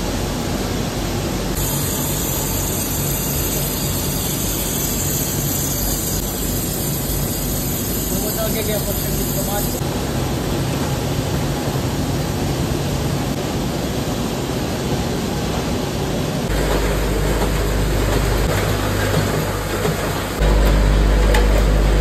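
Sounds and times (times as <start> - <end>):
conveyor and packaging machinery: 0.0 - 22.0
low machine hum: 0.0 - 22.0.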